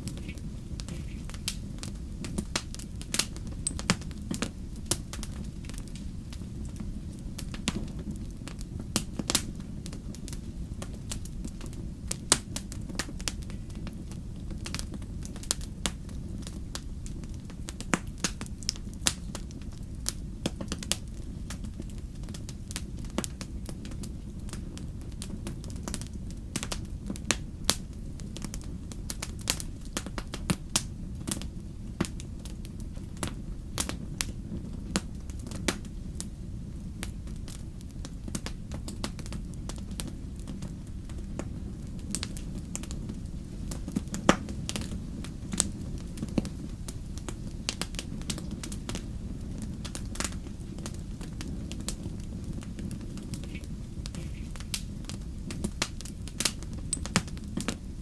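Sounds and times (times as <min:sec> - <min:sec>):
low rumble of burning: 0:00.0 - 0:58.0
wood fire crackling and popping: 0:00.0 - 0:58.0.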